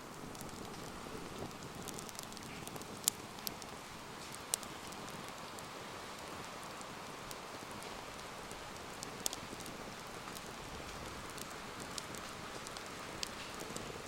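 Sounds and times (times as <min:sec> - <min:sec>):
campfire hissing: 0:00.0 - 0:14.0
fire crackling and popping: 0:00.0 - 0:14.0.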